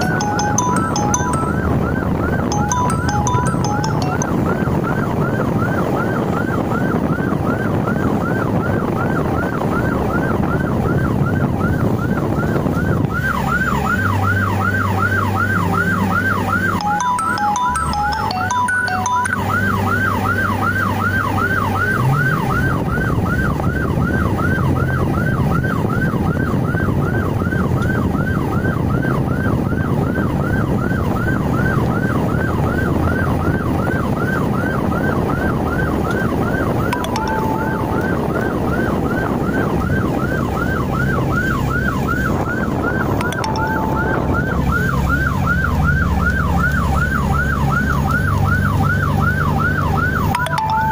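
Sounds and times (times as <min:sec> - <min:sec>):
engines and road noise rumble: 0:00.0 - 0:50.9
siren yelping: 0:00.0 - 0:50.9.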